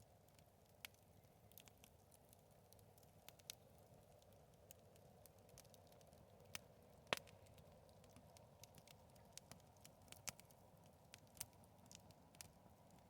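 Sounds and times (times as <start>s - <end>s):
bonfire crackling: 0.0s - 13.0s.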